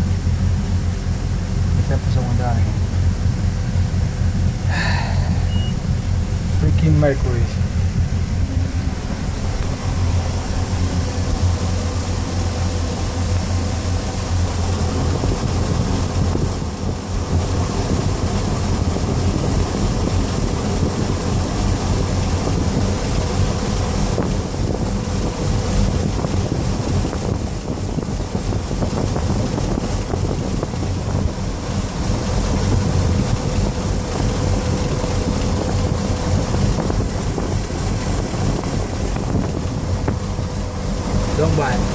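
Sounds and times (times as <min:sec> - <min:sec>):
boat engine humming: 0:00.0 - 0:41.9
water rushing: 0:00.0 - 0:41.9
wind buffeting microphone: 0:00.0 - 0:41.9.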